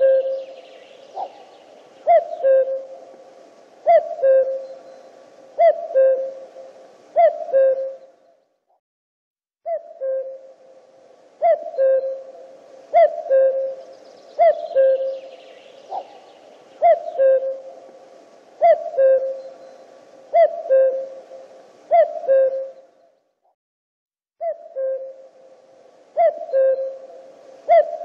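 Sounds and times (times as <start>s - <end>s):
cuckoo calling: 0.0s - 8.4s, 9.7s - 23.1s, 24.4s - 28.0s.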